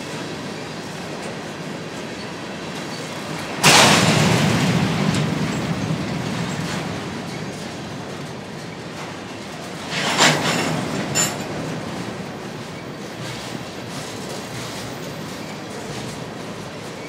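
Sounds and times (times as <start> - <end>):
train clatter: 0.0 - 17.0
train wheels rumbling on rail: 0.0 - 17.0.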